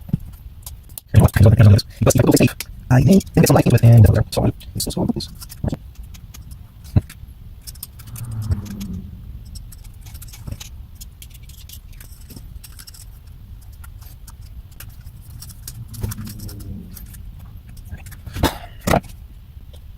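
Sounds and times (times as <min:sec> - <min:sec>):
small hard parts clicking and rattling: 0:00.0 - 0:19.9
steady low hum: 0:00.0 - 0:19.9.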